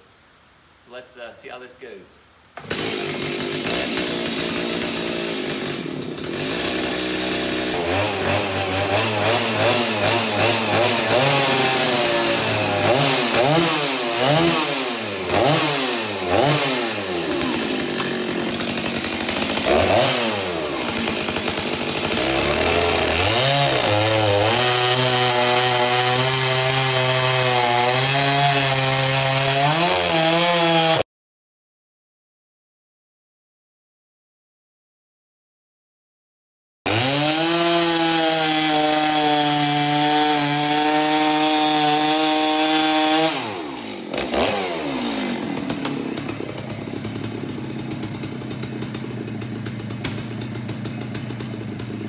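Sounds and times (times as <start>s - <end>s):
chainsaw revving: 2.6s - 31.1s, 36.9s - 52.0s.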